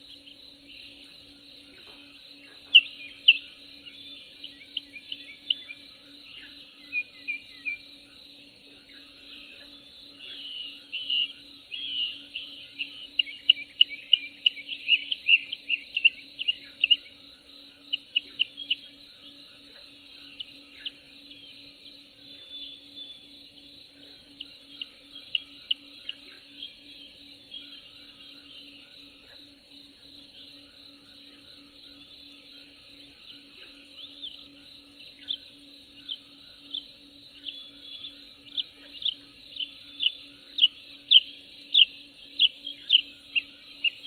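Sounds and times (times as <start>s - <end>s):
faint low hum: 0.0s - 44.0s
high insect drone: 0.0s - 44.0s
songbirds chirping: 0.0s - 44.0s.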